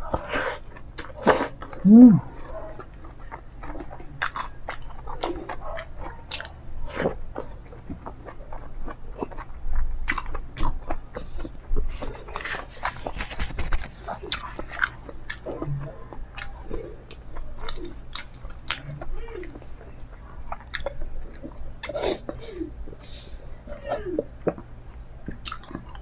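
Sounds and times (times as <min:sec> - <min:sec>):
person chewing and lip-smacking: 0:00.0 - 0:26.0.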